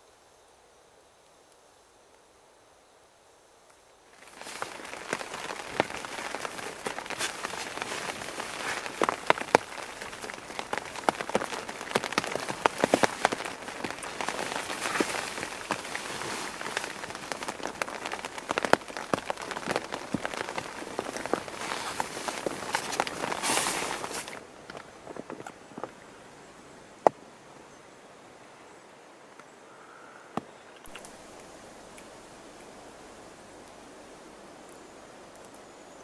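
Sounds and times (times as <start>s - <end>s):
rain on a canvas tarp: 1.0s - 27.6s, 29.1s - 36.0s.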